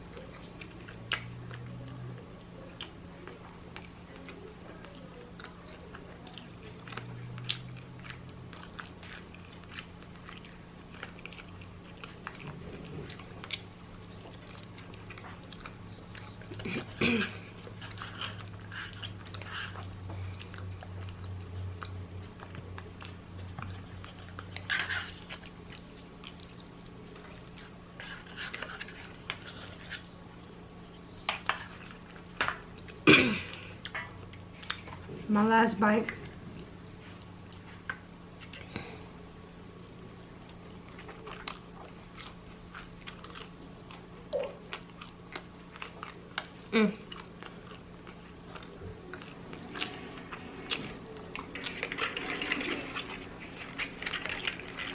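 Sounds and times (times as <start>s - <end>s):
person chewing food: 0.0s - 35.3s, 36.2s - 54.9s
steady low hum: 0.0s - 54.9s.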